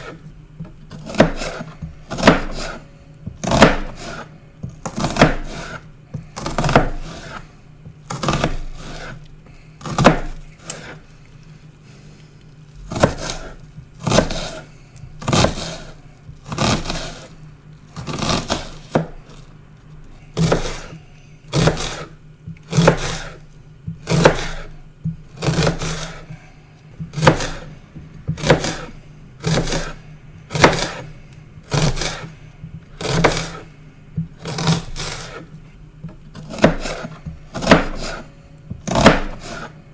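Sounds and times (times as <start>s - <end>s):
knife chopping onion: 0.0s - 11.1s, 12.8s - 19.5s, 20.1s - 39.9s.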